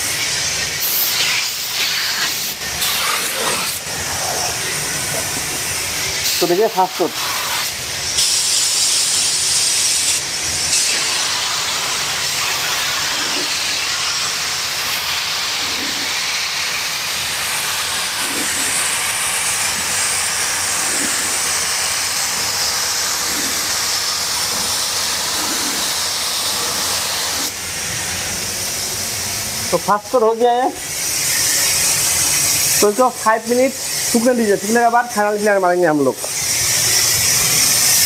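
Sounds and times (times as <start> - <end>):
paint spray gun hissing: 0.0 - 38.0.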